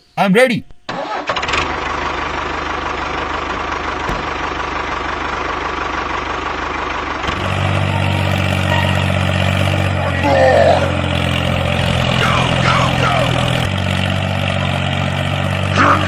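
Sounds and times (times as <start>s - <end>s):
small tractor motor buzzing: 0.9s - 16.0s.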